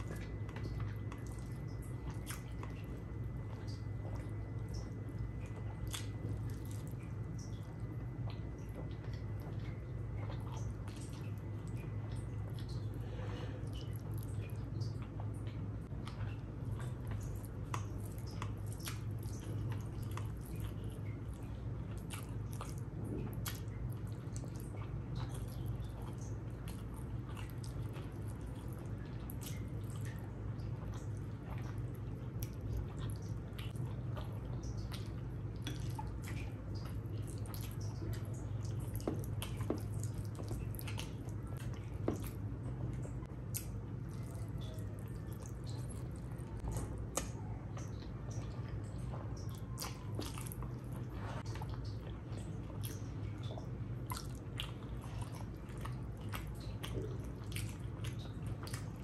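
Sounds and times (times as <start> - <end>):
steady low hum: 0.0 - 59.0
wet chewing and smacking: 0.0 - 59.0.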